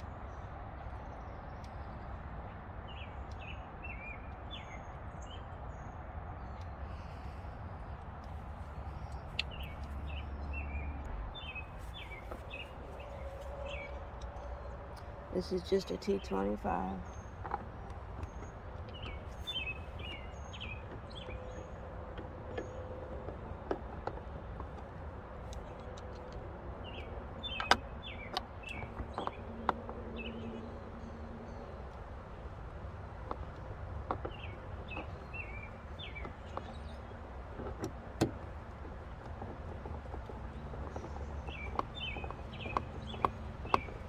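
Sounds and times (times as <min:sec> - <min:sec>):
birds chirping: 0:02.9 - 0:44.0.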